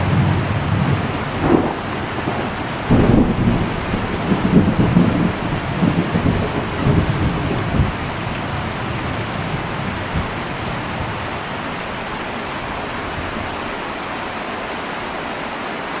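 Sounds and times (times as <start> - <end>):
low thunder rumble: 0.0 - 14.1
heavy rain on a metal roof: 0.0 - 16.0.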